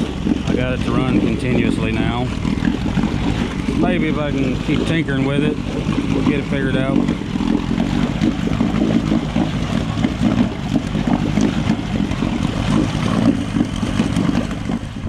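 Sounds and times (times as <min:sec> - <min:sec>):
outboard motor running: 0:00.0 - 0:15.0
propeller churning water: 0:00.0 - 0:15.0.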